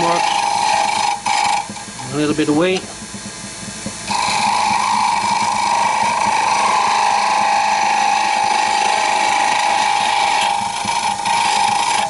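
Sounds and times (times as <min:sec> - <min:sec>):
lathe tool cutting wood: 0:00.0 - 0:02.8, 0:04.0 - 0:12.0
lathe running: 0:00.0 - 0:12.0.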